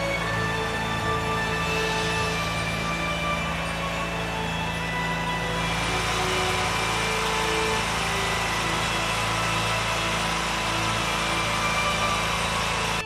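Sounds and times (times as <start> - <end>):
garden tractor engine idling: 0.0 - 13.0.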